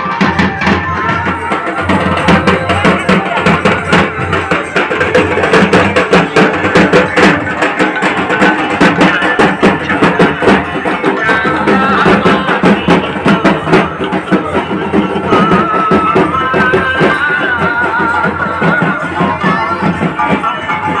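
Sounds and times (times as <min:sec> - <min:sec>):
barrel drums beaten with sticks: 0:00.0 - 0:21.0.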